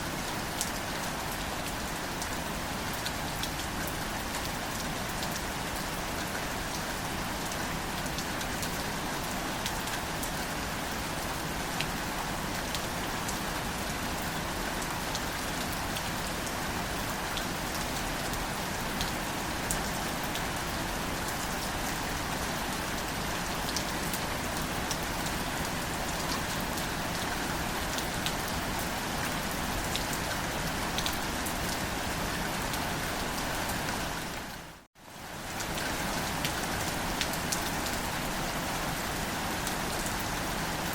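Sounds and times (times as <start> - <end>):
gentle rain on leaves: 0.0 - 40.9.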